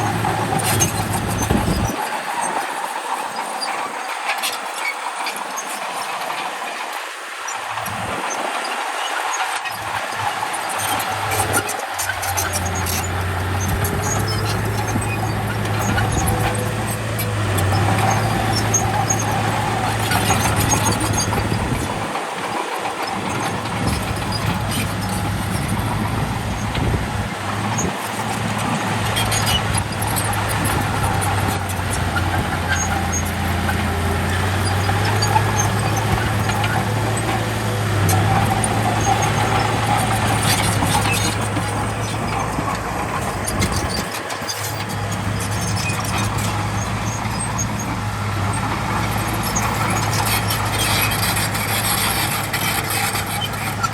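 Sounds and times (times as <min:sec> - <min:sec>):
bulldozer diesel engine: 0:00.0 - 0:53.9.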